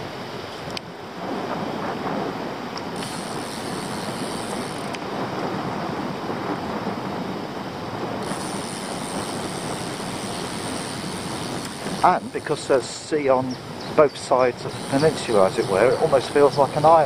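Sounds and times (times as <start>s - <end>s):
bike tyres rolling on tarmac: 0.0s - 17.0s
wind on microphone: 0.0s - 17.0s.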